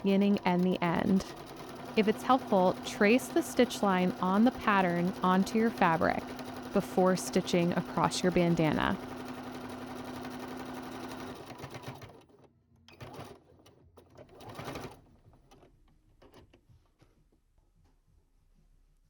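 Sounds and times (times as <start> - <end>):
sewing machine stitching: 0.0 - 16.6.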